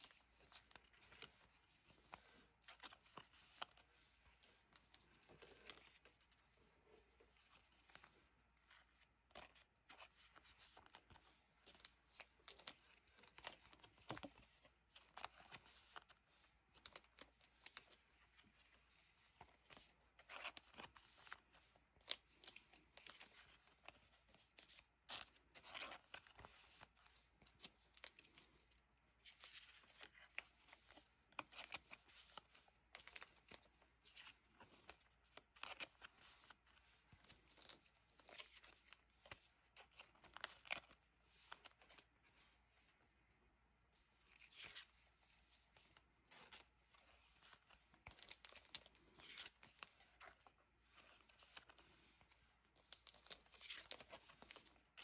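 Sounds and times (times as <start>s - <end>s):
plastic sleeves crinkling: 0.0s - 55.0s.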